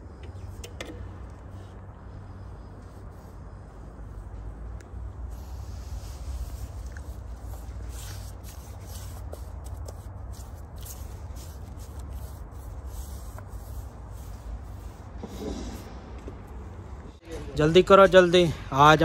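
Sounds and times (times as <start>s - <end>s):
steady low rumble: 0.0s - 18.4s
light scuffs and rustles: 0.3s - 17.3s.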